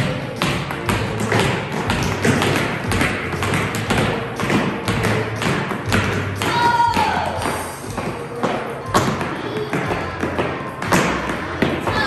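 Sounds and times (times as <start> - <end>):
dance shoes tapping on floor: 0.0 - 12.0.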